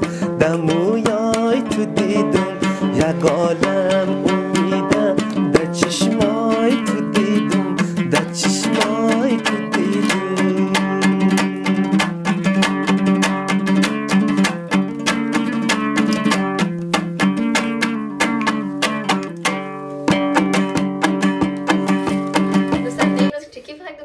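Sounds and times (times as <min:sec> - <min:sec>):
plucked string instrument strummed: 0:00.0 - 0:23.3.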